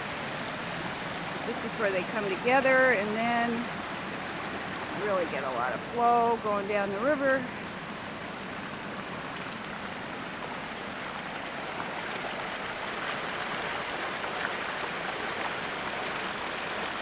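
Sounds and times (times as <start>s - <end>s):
streams rushing: 0.0s - 17.0s.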